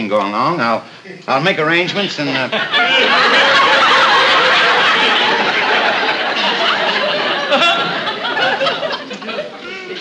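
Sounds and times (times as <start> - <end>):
audience laughing: 2.0 - 10.0.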